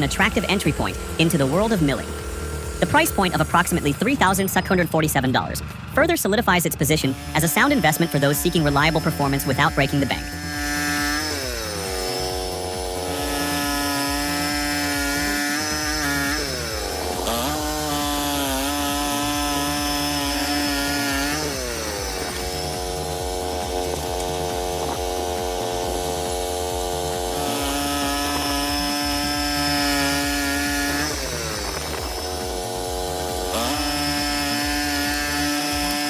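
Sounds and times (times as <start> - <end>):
sawmill engine and saw cutting: 0.0 - 36.0.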